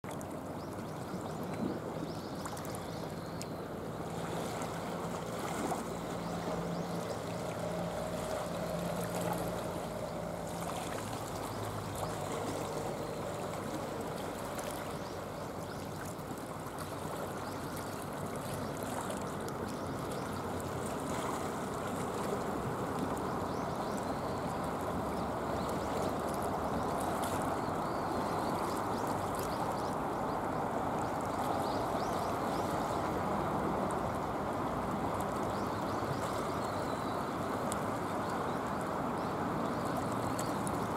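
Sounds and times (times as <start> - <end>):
seawater washing over rocks: 3.7 - 40.9.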